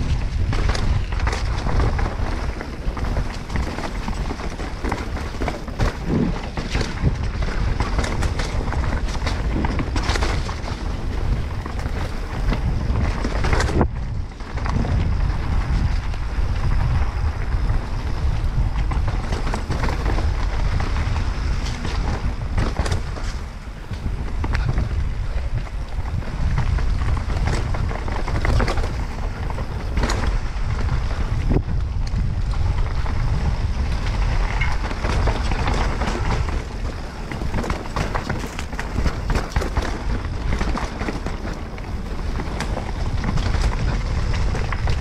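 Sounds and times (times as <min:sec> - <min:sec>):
bike knocks and rattles: 0:00.0 - 0:45.0
wind buffeting microphone: 0:00.0 - 0:45.0.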